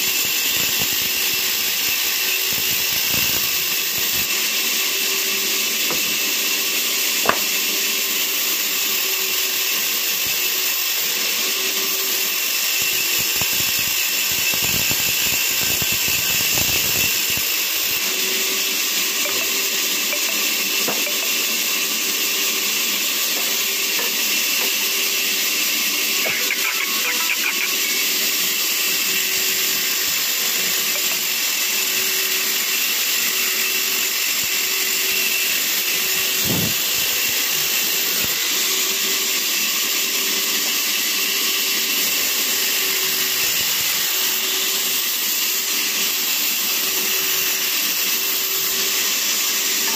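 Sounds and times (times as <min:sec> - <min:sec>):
band saw cutting wood: 0:00.0 - 0:49.9.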